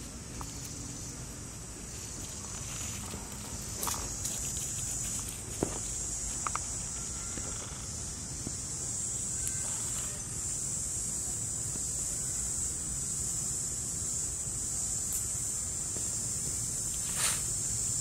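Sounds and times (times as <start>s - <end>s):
insects droning in trees: 0.0s - 18.0s.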